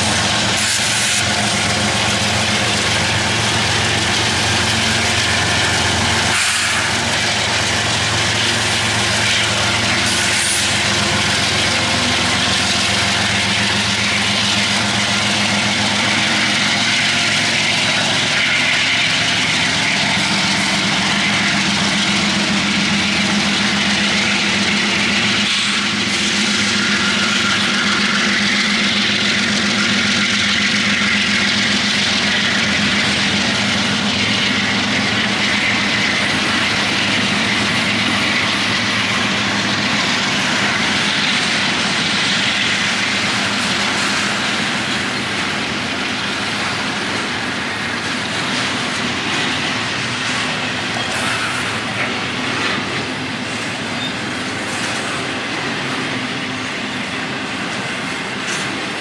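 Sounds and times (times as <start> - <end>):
diesel locomotive engine drone: 0.0 - 59.0
freight train rolling: 0.0 - 59.0.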